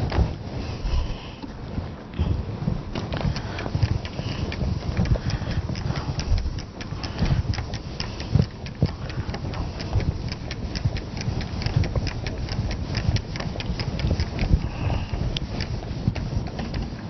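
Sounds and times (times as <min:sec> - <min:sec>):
duster wiping a whiteboard: 0:00.0 - 0:17.0.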